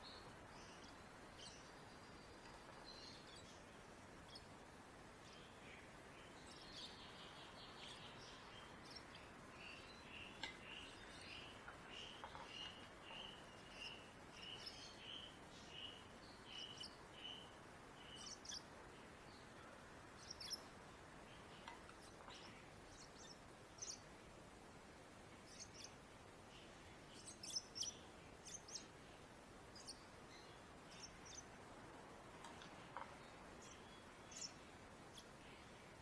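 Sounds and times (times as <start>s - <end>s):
parakeet chick peeping: 0.2s - 24.1s, 25.0s - 35.8s.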